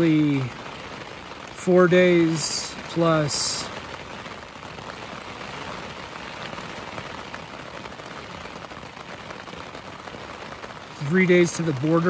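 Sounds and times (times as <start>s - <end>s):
rain on tent fabric: 0.0s - 12.0s.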